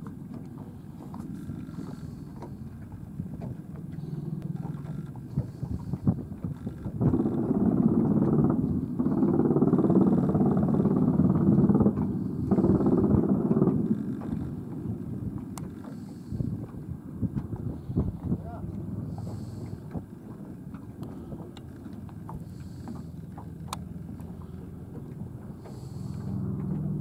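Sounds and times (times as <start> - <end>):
tiltrotor aircraft droning: 0.3 - 17.9, 18.5 - 27.0.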